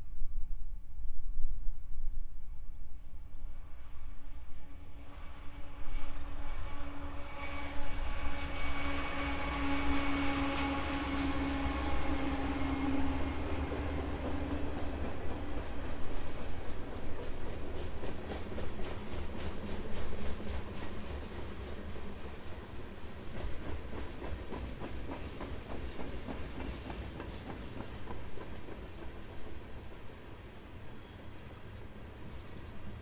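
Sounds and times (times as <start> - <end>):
diesel locomotive engine drone: 2.4 - 33.0.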